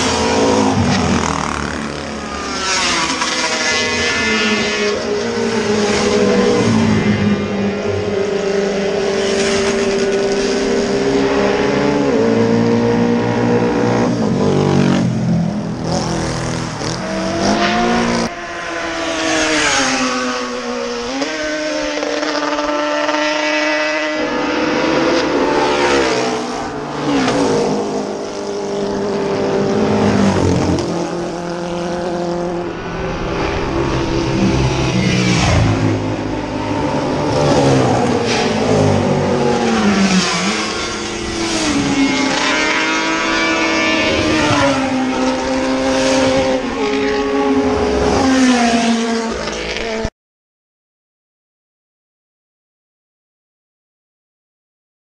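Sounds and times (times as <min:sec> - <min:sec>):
racing motorcycles passing: 0:00.0 - 0:50.1.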